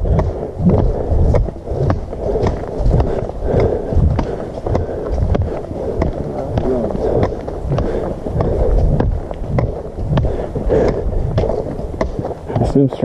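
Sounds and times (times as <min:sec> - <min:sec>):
footsteps on gravel and leaves: 0:00.0 - 0:13.0.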